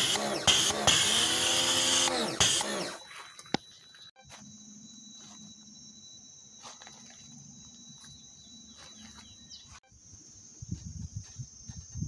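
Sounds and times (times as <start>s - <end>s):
high-pitched insect drone: 0.9s - 12.0s.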